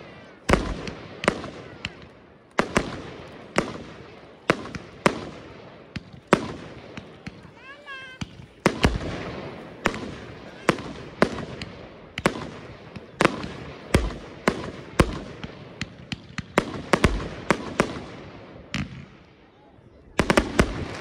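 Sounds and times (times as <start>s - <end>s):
firework bangs: 0.0s - 19.3s, 20.2s - 21.0s.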